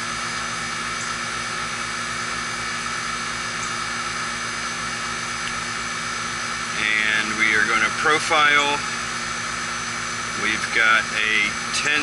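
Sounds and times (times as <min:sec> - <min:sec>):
fan rushing air: 0:00.0 - 0:12.0
low compressor hum: 0:00.0 - 0:12.0.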